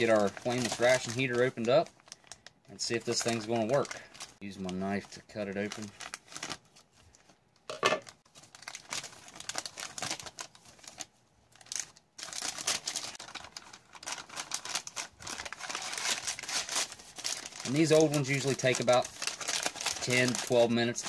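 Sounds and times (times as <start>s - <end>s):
plastic packaging crinkling: 0.0s - 7.3s, 8.0s - 21.0s.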